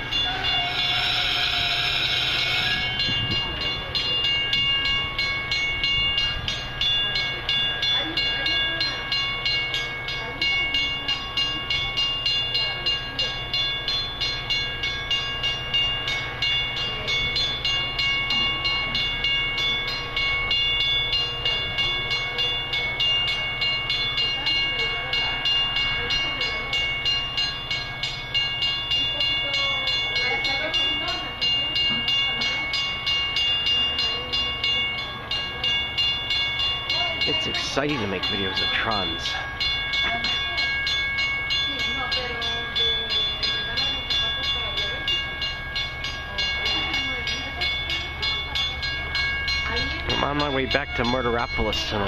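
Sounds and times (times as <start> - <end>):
railroad bell ringing: 0.0 - 52.0.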